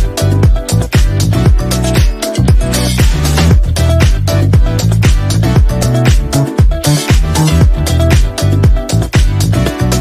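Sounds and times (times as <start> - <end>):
upbeat dance music: 0.0 - 10.0.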